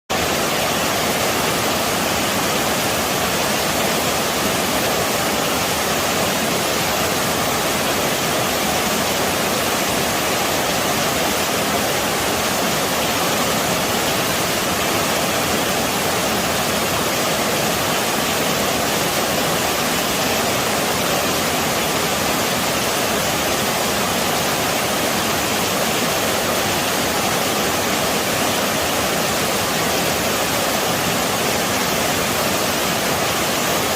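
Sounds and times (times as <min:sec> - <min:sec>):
waterfall roaring: 0:00.1 - 0:33.9.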